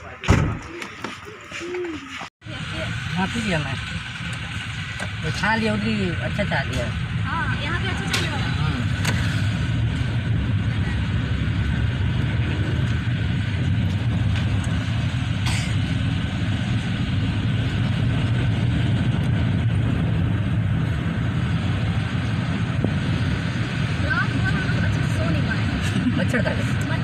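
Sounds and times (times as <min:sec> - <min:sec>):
car cabin road rumble: 0:00.0 - 0:27.0.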